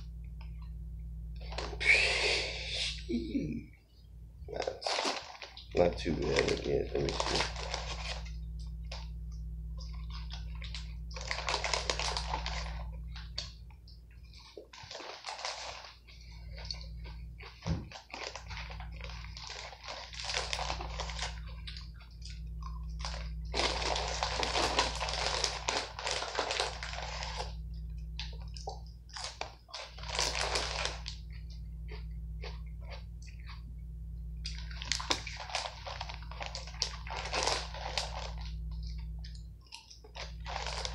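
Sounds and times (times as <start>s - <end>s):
steady low hum: 0.0s - 40.9s
plastic bag crinkling: 1.4s - 2.2s, 4.5s - 9.2s, 9.8s - 33.6s, 34.4s - 40.9s
crunchy chewing of salad: 4.5s - 33.7s, 34.4s - 40.9s.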